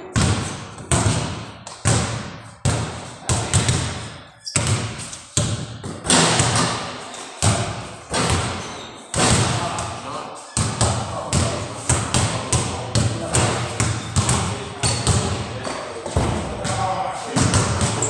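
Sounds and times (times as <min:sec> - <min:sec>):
basketballs bouncing on hard floor: 0:00.1 - 0:10.0, 0:10.6 - 0:18.0.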